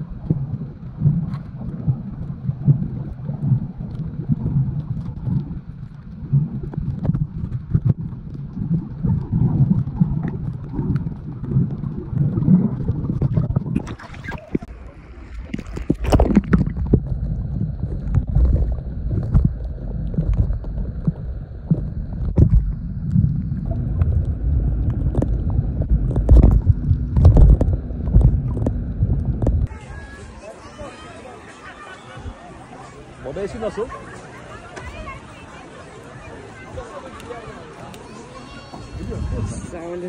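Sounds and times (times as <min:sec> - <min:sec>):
splashy water rush: 0:00.0 - 0:40.0
underwater rumble of moving water: 0:00.0 - 0:40.0
water gurgling: 0:00.0 - 0:40.0.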